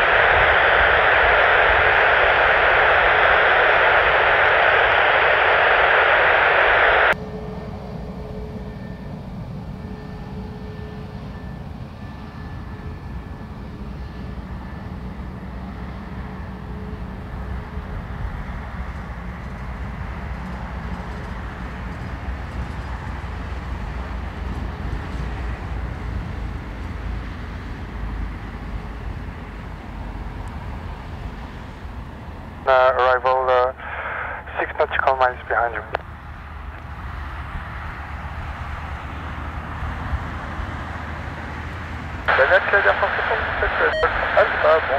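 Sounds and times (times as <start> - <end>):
jet engines humming with whine: 0.0 - 44.9.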